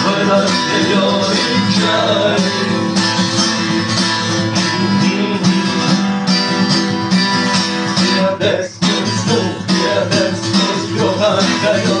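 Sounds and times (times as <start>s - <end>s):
guitar strumming: 0.0s - 12.0s.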